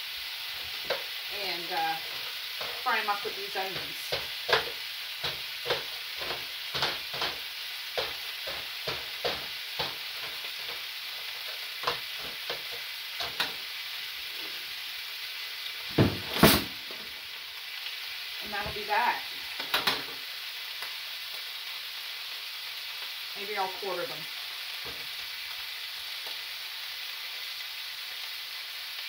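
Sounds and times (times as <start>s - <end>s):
onions sizzling in frying pan: 0.0s - 29.0s.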